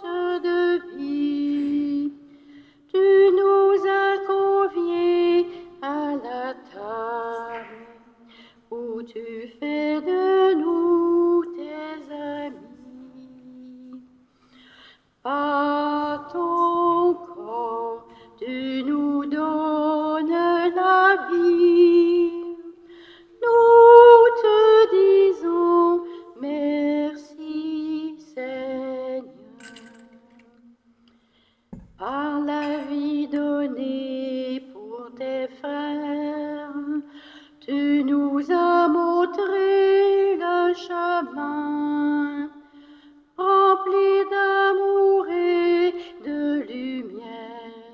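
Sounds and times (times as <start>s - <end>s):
woman singing a hymn: 0.0s - 14.2s, 15.2s - 30.8s, 31.8s - 42.7s, 43.3s - 47.9s.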